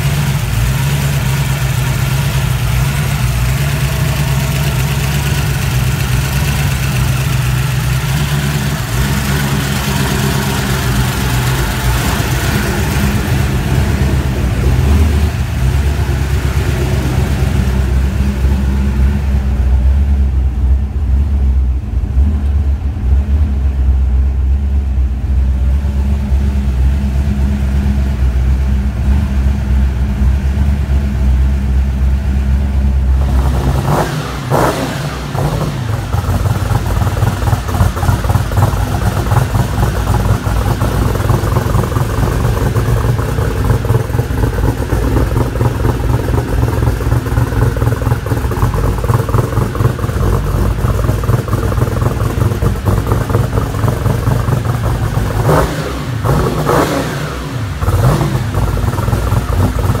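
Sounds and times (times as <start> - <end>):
car engine idling and revving: 0.0 - 60.0.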